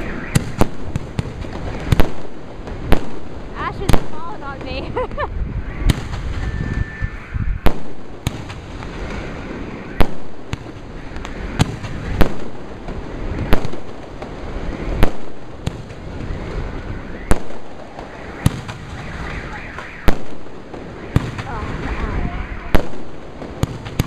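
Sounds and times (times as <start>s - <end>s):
small firework cracks: 0.0s - 4.2s, 7.6s - 24.0s
firework bangs with rumble: 0.0s - 5.2s, 5.8s - 6.8s, 7.6s - 24.0s.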